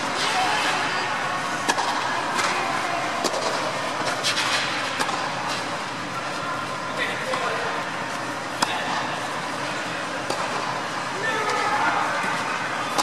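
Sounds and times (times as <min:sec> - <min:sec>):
indoor hall steady noise: 0:00.0 - 0:13.0.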